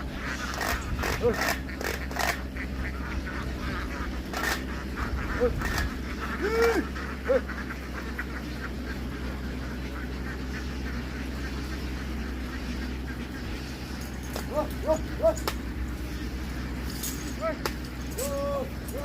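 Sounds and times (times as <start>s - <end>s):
flock of ducks quacking: 0.0s - 19.0s
steady low hum: 0.0s - 19.0s.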